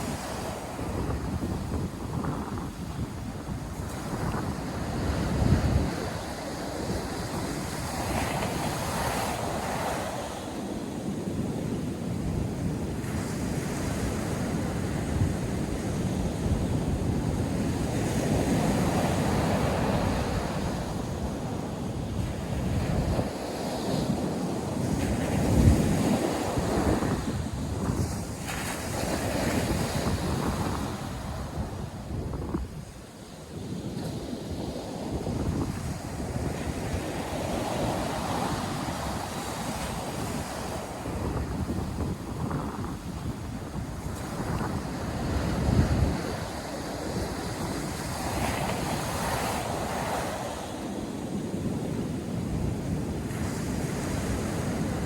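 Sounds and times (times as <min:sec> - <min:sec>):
waves breaking on beach: 0:00.0 - 0:55.0
wind buffeting microphone: 0:00.0 - 0:55.0.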